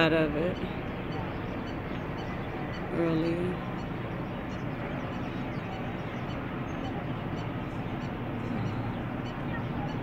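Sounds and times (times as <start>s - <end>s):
steady outdoor rushing noise: 0.0s - 10.0s.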